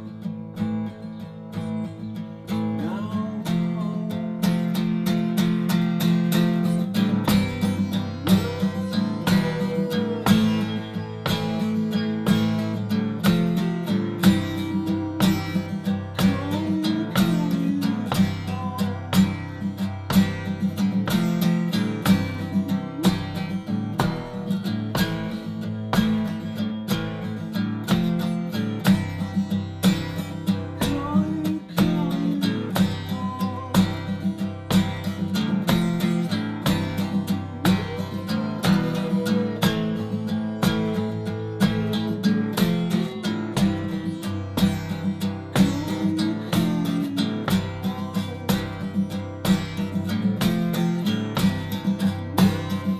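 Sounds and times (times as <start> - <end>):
acoustic guitar strumming: 0.0 - 52.9.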